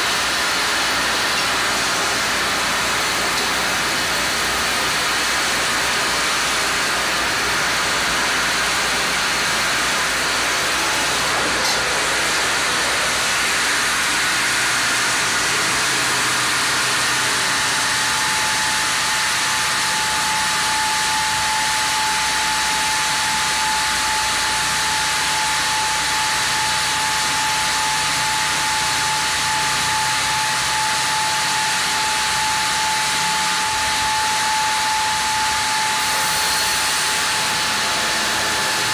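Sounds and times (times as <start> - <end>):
high whine: 0.0 - 38.9.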